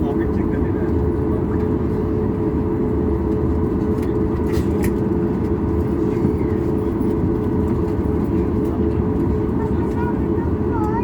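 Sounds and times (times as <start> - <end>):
idling jet engines rumble: 0.0 - 11.0.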